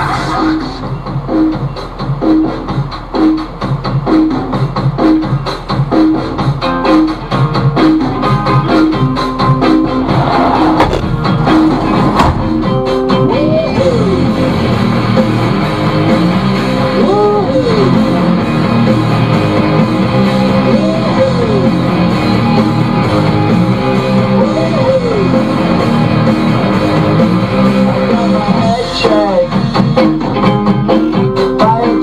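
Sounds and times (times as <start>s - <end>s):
rock song on car radio: 0.0s - 32.0s.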